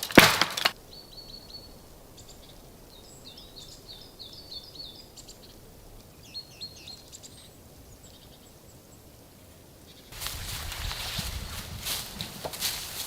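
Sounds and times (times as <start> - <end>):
small songbird singing: 0.7 - 11.4.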